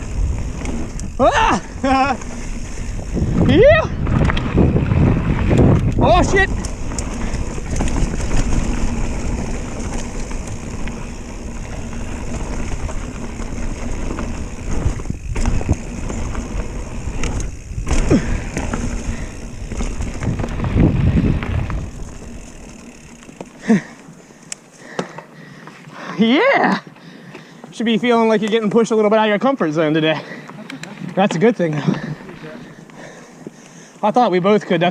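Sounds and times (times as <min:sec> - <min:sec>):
bike tyres rumbling on dirt: 0:00.0 - 0:34.9.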